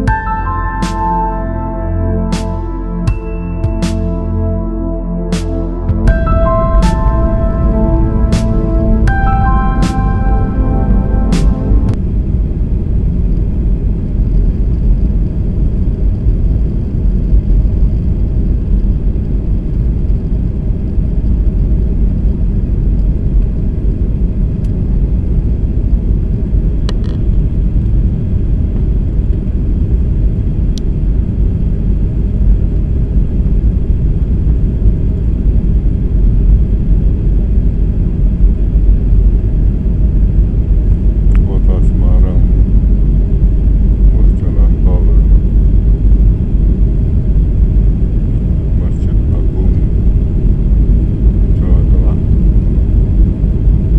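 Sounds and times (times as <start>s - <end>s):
airliner cabin engine rumble: 4.2s - 53.9s.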